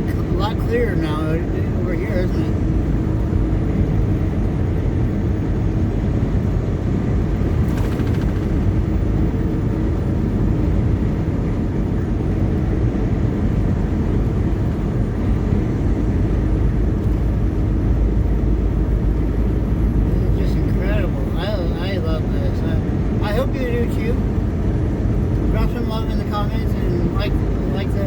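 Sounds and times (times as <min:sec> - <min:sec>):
truck engine and road noise: 0:00.0 - 0:28.0.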